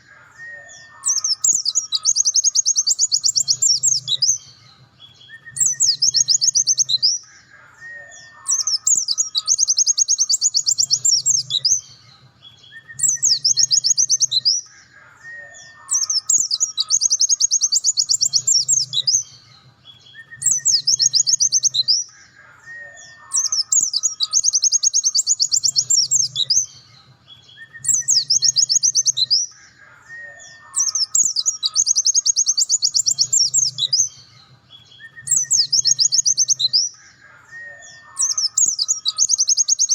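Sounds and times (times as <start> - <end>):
white-eye bird trilling song: 0.0 - 39.9.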